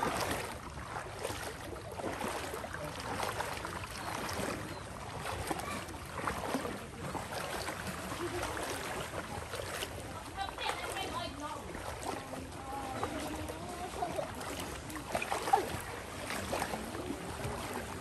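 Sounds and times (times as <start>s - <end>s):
water swishing and splashing: 0.0s - 18.0s.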